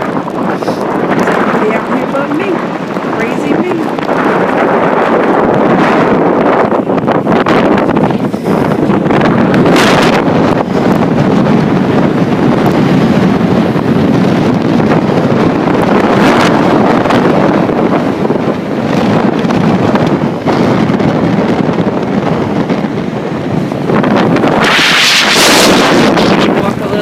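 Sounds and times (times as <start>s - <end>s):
blizzard wind gusting: 0.0s - 27.0s.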